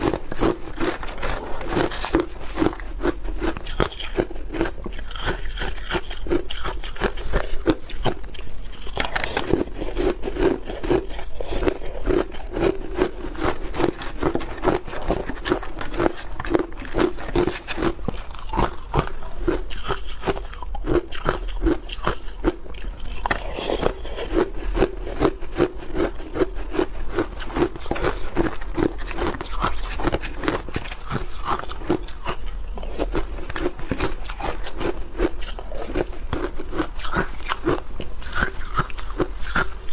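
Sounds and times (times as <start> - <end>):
chewing ice with cracking: 0.0 - 39.9.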